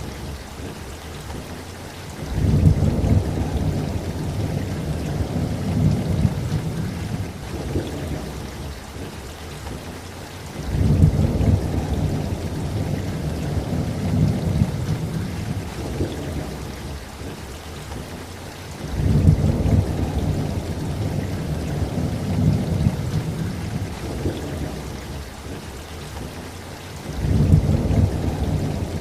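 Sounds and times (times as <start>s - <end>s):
heavy rain falling: 0.0s - 29.0s
thunder rumbling: 0.0s - 29.0s.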